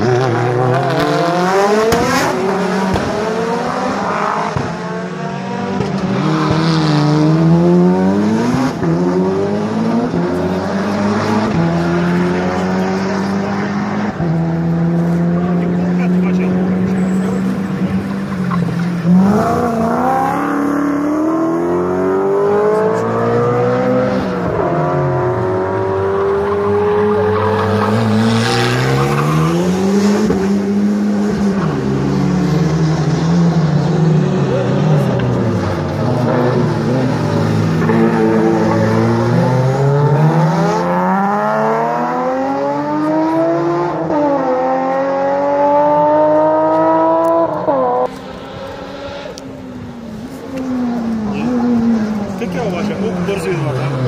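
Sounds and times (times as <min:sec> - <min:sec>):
rally car engine accelerating: 0:00.0 - 0:54.0.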